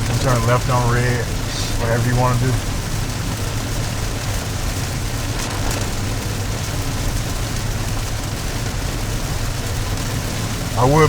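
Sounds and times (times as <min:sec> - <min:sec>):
rain and wet road hiss: 0:00.0 - 0:11.0
road and engine rumble: 0:00.0 - 0:11.0.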